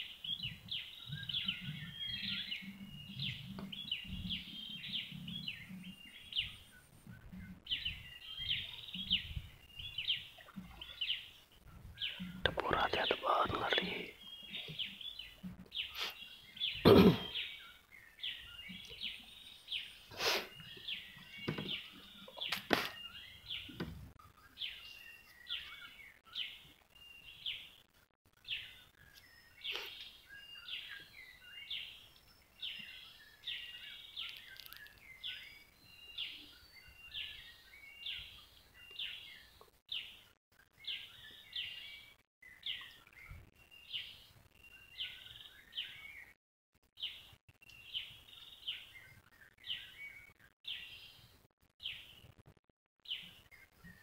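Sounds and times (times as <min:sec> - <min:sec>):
bird chirping: 0:00.0 - 0:40.2, 0:40.8 - 0:46.4, 0:47.0 - 0:52.4.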